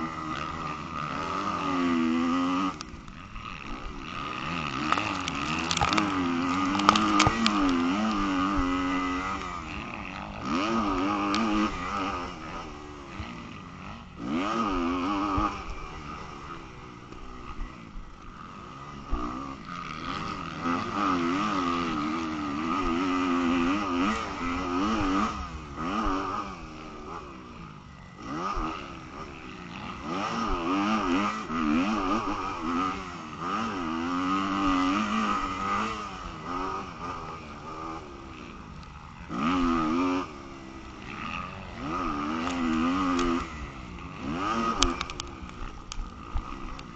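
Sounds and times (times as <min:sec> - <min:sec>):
motocross bike engine revving: 0:00.0 - 0:46.9.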